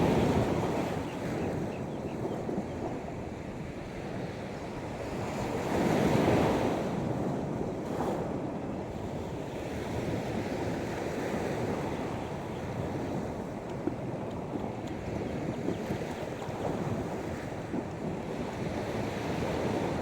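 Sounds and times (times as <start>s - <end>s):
sea surf washing ashore: 0.0s - 1.7s, 3.0s - 20.0s.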